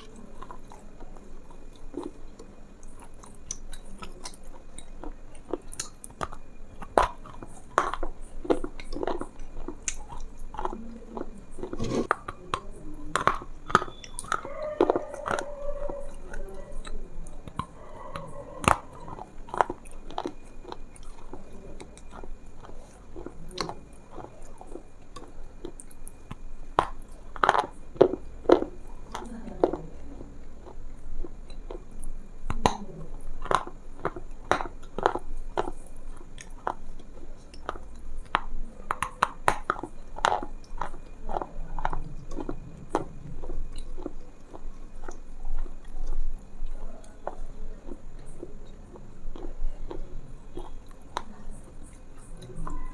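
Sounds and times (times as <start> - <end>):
close chewing and crunching: 0.0 - 52.9.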